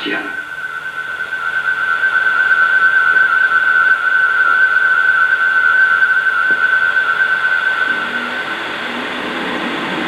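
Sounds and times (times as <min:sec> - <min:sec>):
background hiss: 0:00.0 - 0:10.0
high-pitched whistling tone: 0:00.0 - 0:10.0.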